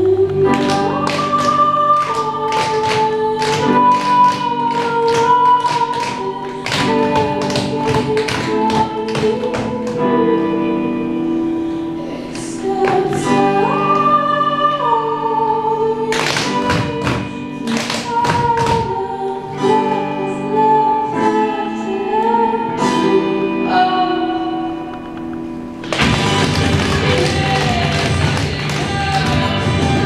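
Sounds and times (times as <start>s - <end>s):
person singing over chords: 0.0s - 30.0s.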